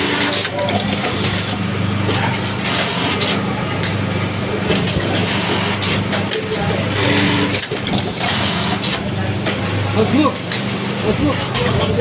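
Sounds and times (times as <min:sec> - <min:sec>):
workshop machine noise: 0:00.0 - 0:12.0.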